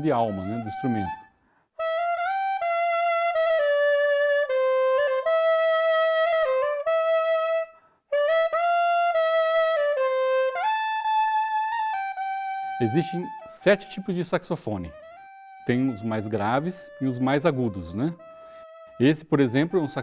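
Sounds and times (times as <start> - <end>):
soprano saxophone melody: 1.8 - 14.1, 14.8 - 20.0.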